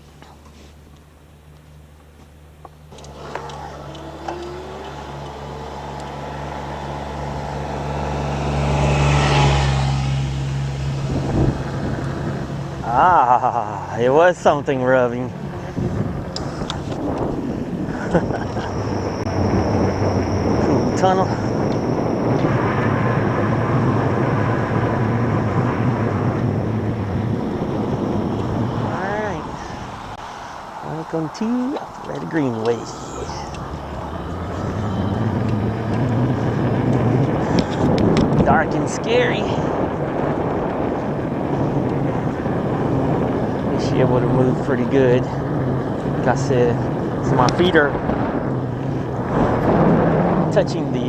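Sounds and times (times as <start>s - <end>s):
bike tyre noise on pavement: 0.0s - 51.0s
wind rushing: 3.1s - 51.0s
steady low hum: 9.5s - 51.0s.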